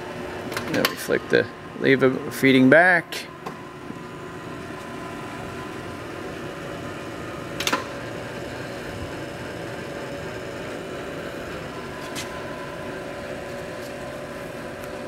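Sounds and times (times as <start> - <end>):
lathe motor and gear hum: 0.0 - 15.0.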